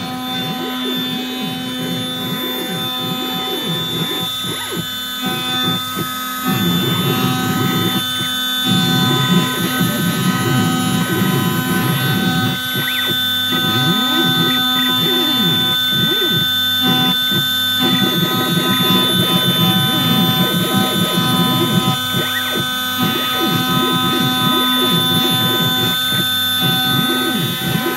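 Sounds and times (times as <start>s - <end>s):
motor tones rising and falling: 0.0s - 27.9s
spindle whine: 0.0s - 27.9s.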